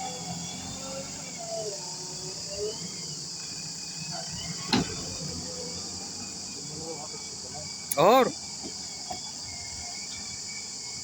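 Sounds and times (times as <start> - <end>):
crickets chirring: 0.2 - 11.0.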